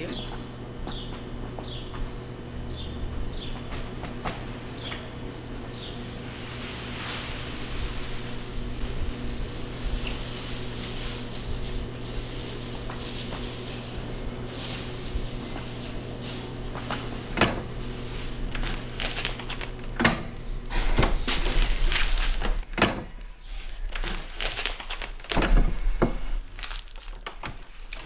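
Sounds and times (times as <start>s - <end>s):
paper being handled: 3.6s - 20.1s, 20.7s - 22.7s, 23.4s - 28.0s.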